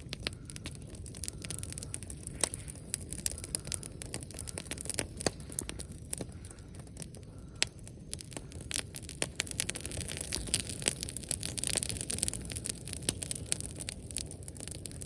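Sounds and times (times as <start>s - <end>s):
bonfire crackling: 0.0s - 15.0s
sharp pops and snaps: 0.0s - 15.0s.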